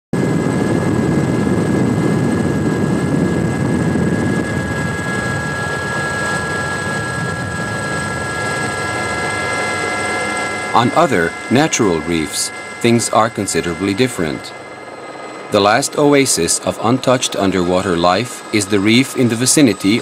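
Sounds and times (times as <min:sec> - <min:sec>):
helicopter rumble: 0:00.2 - 0:20.0
high-pitched whines: 0:00.9 - 0:20.0.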